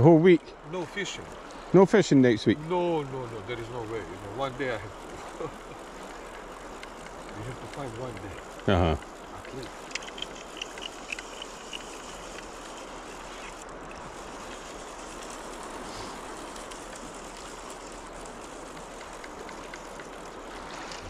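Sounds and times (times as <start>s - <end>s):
flowing river water: 0.0s - 21.0s
faint clicks: 3.3s - 21.0s.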